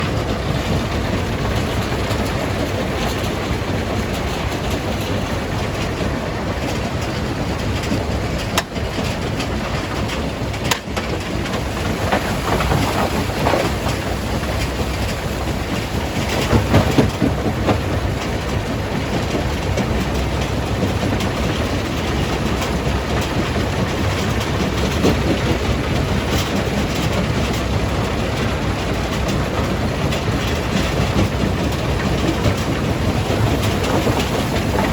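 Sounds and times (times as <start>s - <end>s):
rock crusher rumbling: 6.6s - 34.9s.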